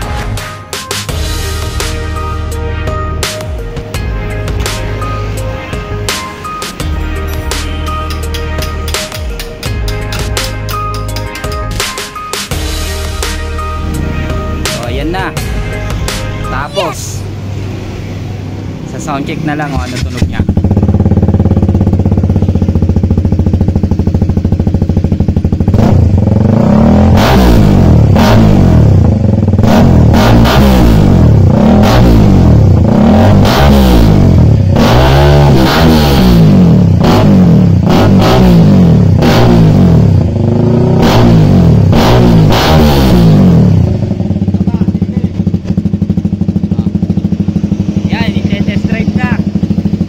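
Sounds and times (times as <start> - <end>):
motorcycle engine idling and revving: 0.0 - 50.0.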